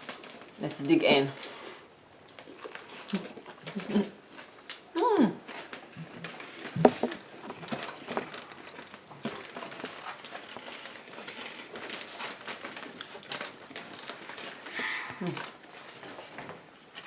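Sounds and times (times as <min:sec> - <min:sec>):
people chewing food: 0:00.0 - 0:00.6, 0:01.3 - 0:17.0.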